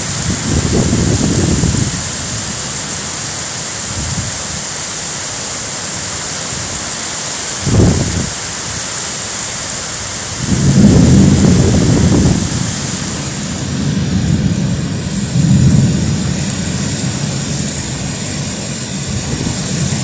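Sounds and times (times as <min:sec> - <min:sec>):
heavy rain hissing: 0:00.0 - 0:20.0
wind gusting on microphone: 0:00.0 - 0:20.0.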